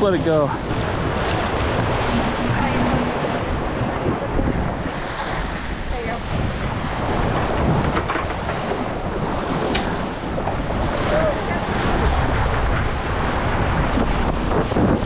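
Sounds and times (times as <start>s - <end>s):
water splashing along hull: 0.0s - 15.0s
wind buffeting microphone: 0.0s - 15.0s.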